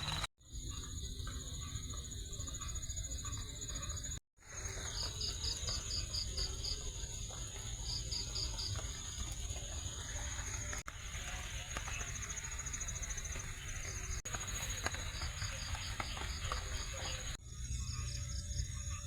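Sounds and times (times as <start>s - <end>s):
cricket trill: 0.0s - 19.0s.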